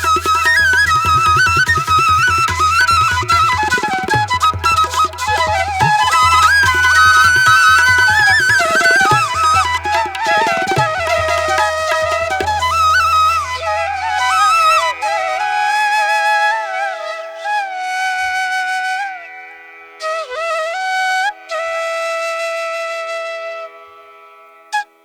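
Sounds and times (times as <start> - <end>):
solo flute melody: 0.0 - 25.0.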